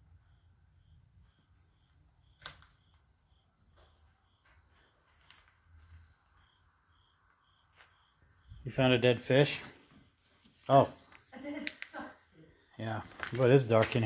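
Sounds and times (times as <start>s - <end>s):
faint insects chirping: 0.0s - 14.0s.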